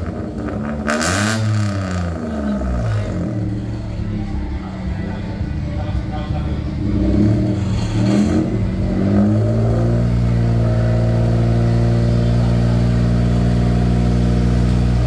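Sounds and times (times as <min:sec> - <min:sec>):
engine revving with sharp exhaust: 0:00.0 - 0:04.0, 0:06.6 - 0:15.0.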